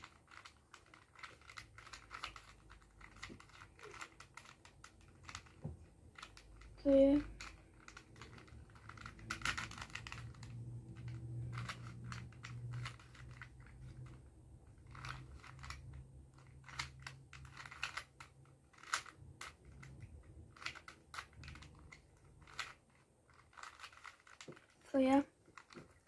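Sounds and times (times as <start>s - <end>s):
puzzle cube layers clicking: 0.0s - 26.0s.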